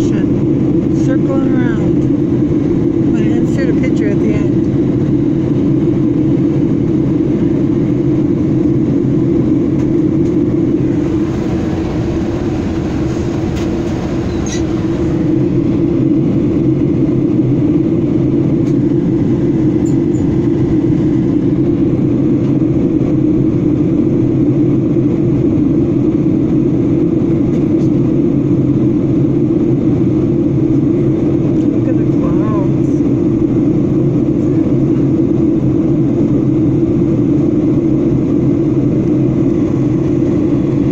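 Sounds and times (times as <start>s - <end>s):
jet engine roar in cabin: 0.0s - 40.9s.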